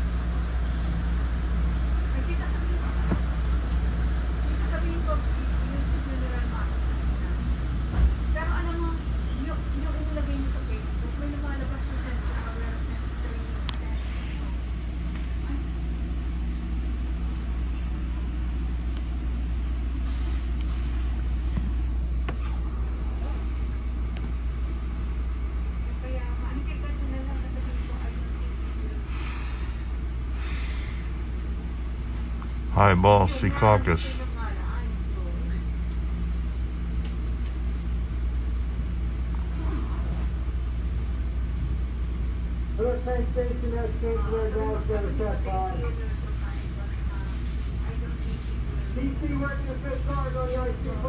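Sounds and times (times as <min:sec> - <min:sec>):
train coach interior hum: 0:00.0 - 0:51.0.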